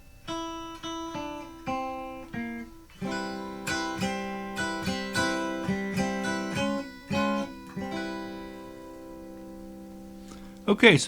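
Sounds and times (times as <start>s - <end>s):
guitar chords strummed: 0.0s - 11.0s.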